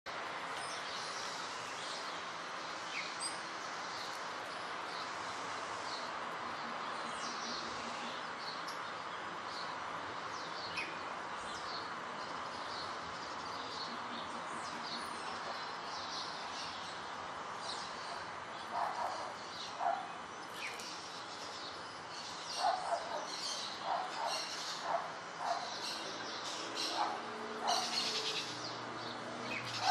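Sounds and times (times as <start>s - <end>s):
small birds chirping: 0.4s - 29.9s.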